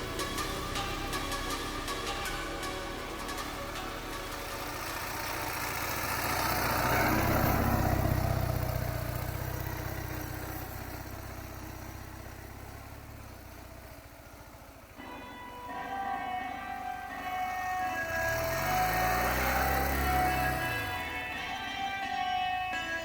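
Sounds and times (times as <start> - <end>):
motorcycle engine passing by: 0.0 - 15.0, 16.8 - 23.0.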